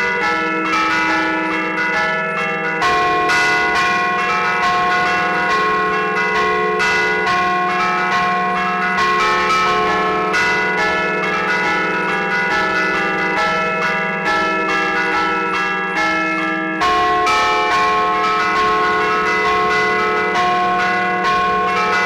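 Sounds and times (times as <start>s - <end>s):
church bells struck in quick melody: 0.0s - 22.0s.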